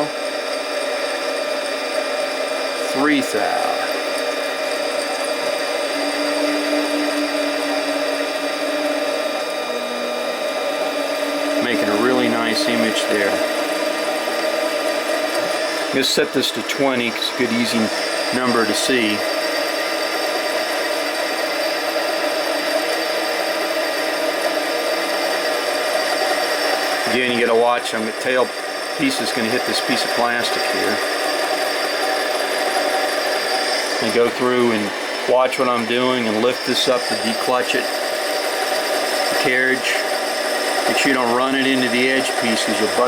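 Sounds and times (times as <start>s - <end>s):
lathe whine: 0.0s - 43.0s
lower lathe tone: 0.0s - 43.0s.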